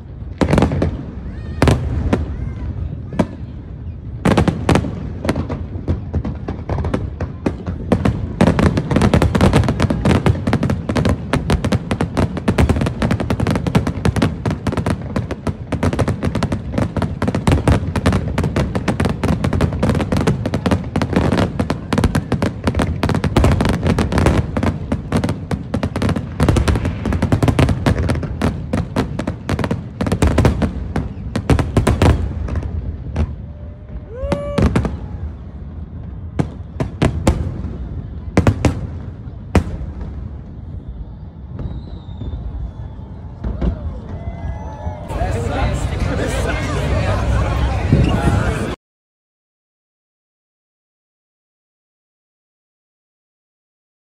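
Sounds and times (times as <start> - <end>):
fireworks bangs and crackles: 0.0 - 48.8.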